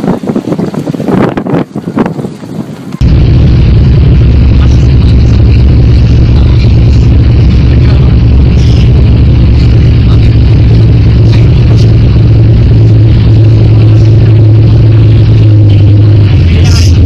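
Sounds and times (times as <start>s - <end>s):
vehicle engine droning: 3.0s - 17.0s.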